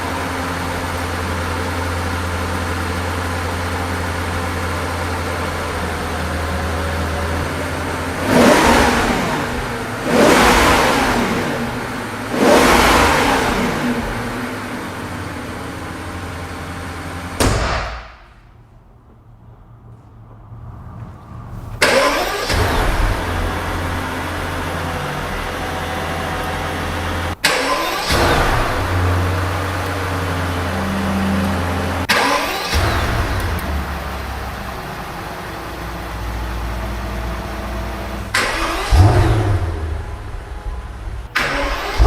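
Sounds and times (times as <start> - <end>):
car engine revving: 0.0 - 17.8, 19.9 - 42.0.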